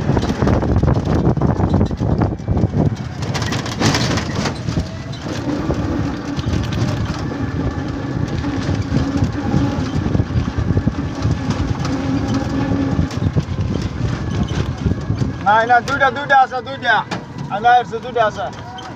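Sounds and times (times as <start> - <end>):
steady engine hum: 0.0 - 18.9
vehicle engine rumble: 0.0 - 18.9.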